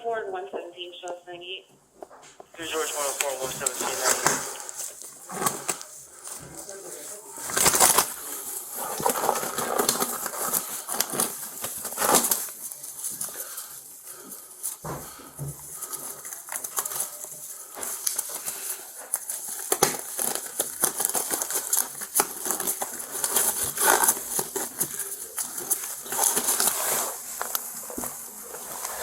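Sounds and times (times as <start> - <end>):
rustling and crinkling: 1.8 - 29.0.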